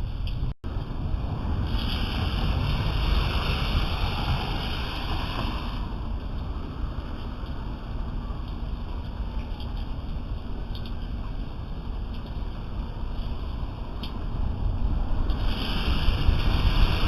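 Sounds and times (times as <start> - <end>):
low rumble: 0.0 - 17.0
steady rain hiss: 0.0 - 17.0.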